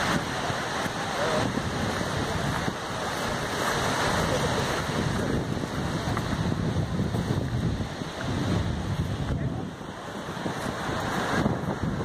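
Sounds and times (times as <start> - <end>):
waterfall rushing: 0.0 - 12.0
wind buffeting the microphone: 0.0 - 12.0.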